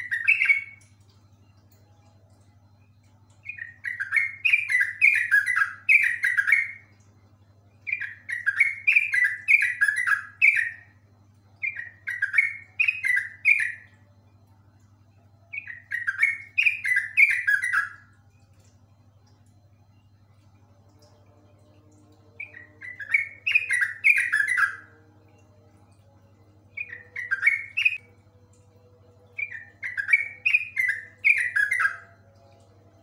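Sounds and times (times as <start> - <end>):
bird singing bubbly notes: 0.0 - 33.0
faint low hum: 0.0 - 33.0.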